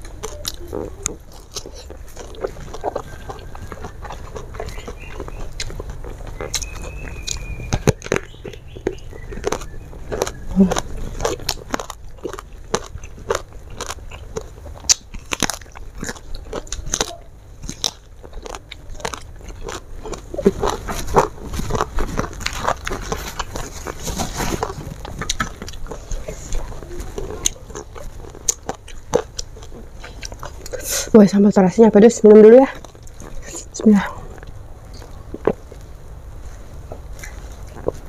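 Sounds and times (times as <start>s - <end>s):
crunchy chewing of raw eggplant: 0.0s - 38.0s.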